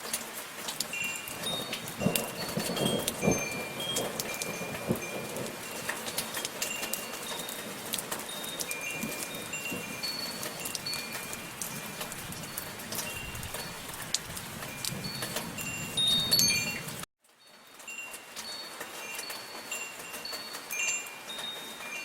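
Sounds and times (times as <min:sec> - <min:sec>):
light rain patter: 0:00.0 - 0:22.0
metal wind chimes ringing: 0:00.8 - 0:22.0.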